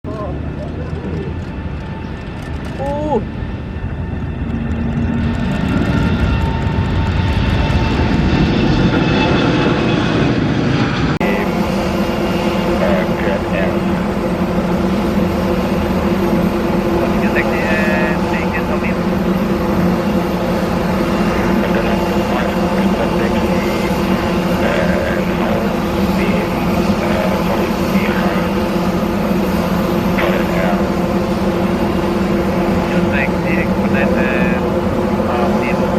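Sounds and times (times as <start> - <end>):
jet engines running: 0.1 - 35.9.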